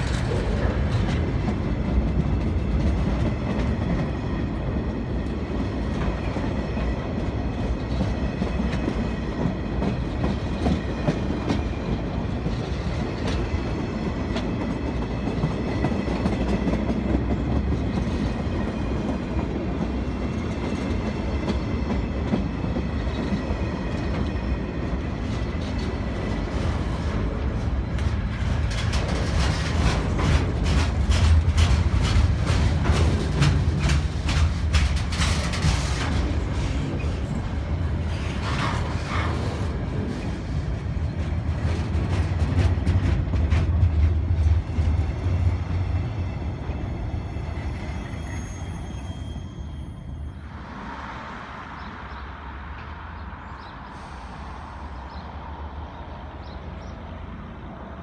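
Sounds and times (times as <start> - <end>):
wheels clicking over rail joints: 0.0 - 46.6
train rumble: 0.0 - 58.0.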